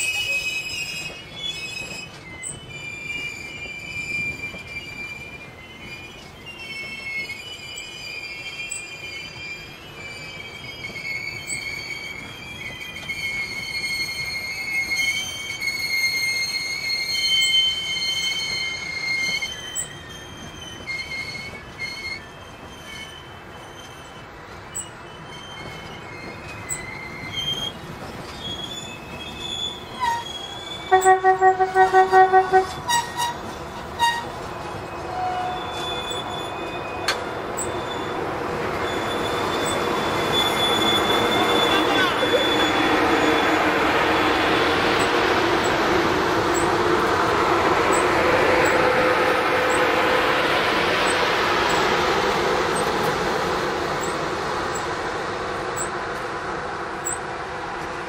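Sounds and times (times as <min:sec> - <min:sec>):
train wheels squealing: 0:00.0 - 0:56.0, 0:57.0 - 0:57.3
rumble of train wheels: 0:00.0 - 0:58.0.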